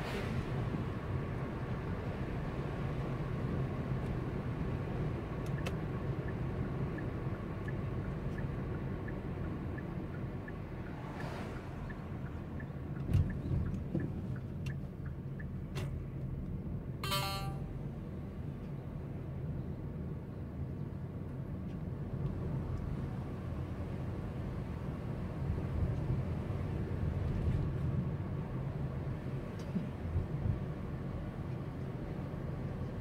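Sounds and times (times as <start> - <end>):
car engine and tyre road noise: 0.0 - 33.0.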